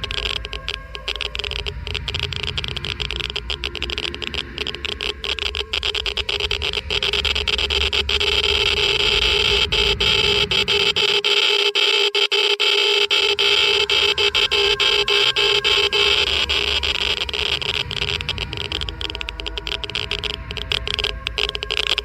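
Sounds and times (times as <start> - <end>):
geiger counter clicking: 0.0 - 22.0
steady humming tone: 0.0 - 22.0.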